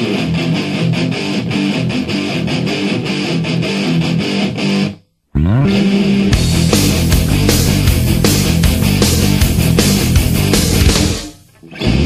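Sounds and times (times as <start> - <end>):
heavy rock music: 0.0 - 12.0
rising guitar slide: 0.0 - 12.0
strummed guitar music: 0.0 - 12.0.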